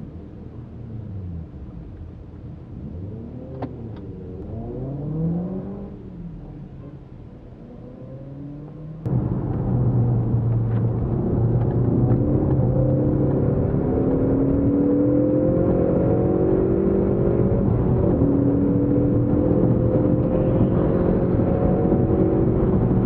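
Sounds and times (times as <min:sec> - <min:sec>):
engine drone under acceleration: 0:00.0 - 0:23.0
car engine revving: 0:02.6 - 0:23.0.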